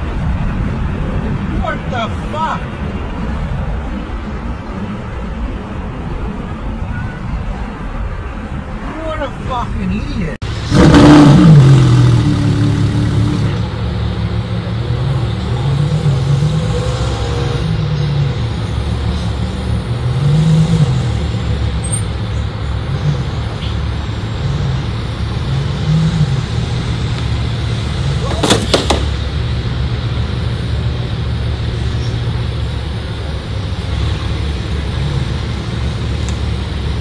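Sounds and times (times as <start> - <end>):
car engines idling: 0.0 - 37.0.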